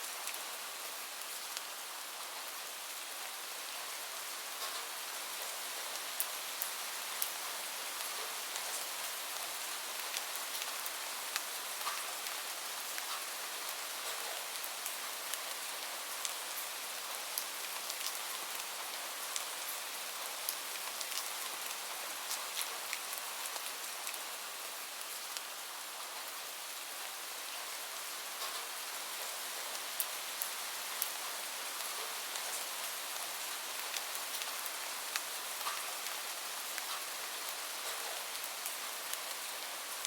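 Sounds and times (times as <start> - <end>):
gentle rain hissing: 0.0 - 40.0.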